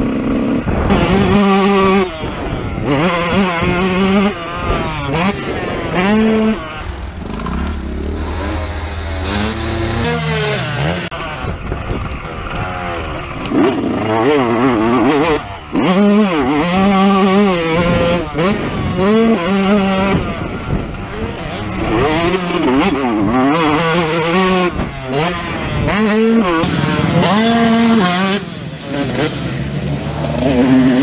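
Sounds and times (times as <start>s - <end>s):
two-stroke engine revving: 0.0s - 31.0s.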